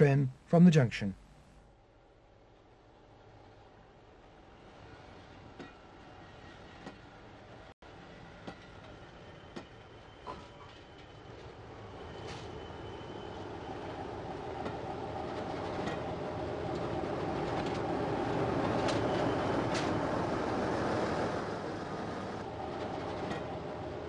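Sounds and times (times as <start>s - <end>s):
diesel locomotive passing: 2.0s - 24.0s.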